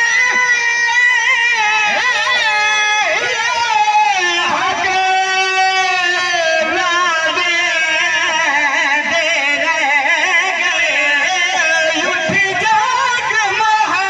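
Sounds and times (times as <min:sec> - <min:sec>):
man chanting through a microphone: 0:00.0 - 0:14.0.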